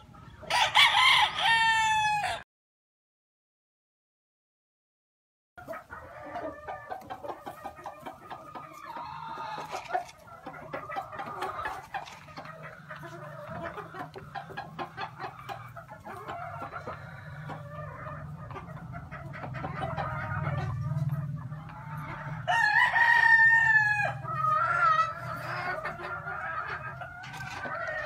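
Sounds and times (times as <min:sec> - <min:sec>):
hens and roosters clucking: 0:00.0 - 0:02.4, 0:05.6 - 0:28.0.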